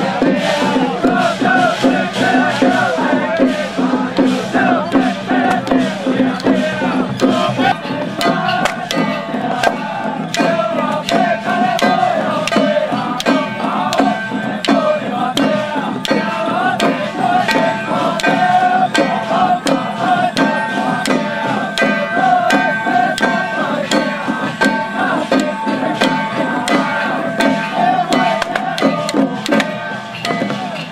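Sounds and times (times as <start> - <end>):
beat of sharp clacks: 0.0 - 30.9.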